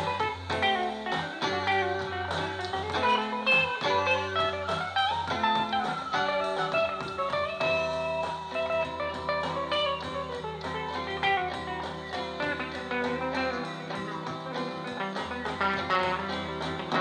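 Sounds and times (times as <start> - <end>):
guitar-led band music from speakers: 0.0 - 17.0.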